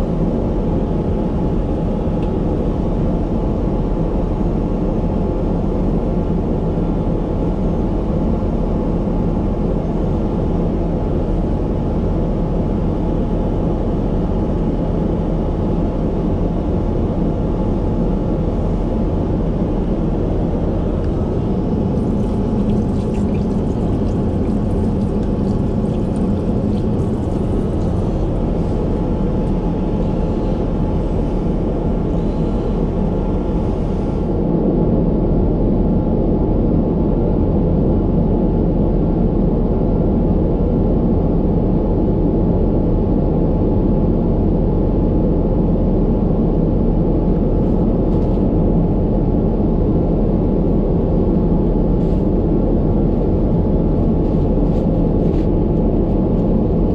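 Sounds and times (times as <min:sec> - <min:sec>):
airliner engine low rumble: 0:00.0 - 0:56.9.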